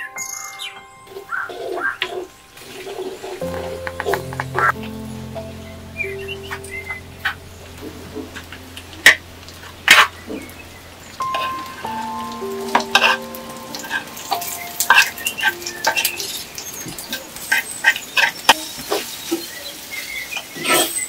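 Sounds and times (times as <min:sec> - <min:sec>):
soft background music: 0:00.0 - 0:19.3
frying sizzle: 0:01.1 - 0:21.0.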